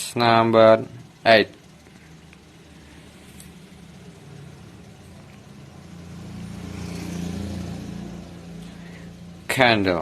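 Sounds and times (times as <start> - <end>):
car engine running low: 0.0 - 10.0.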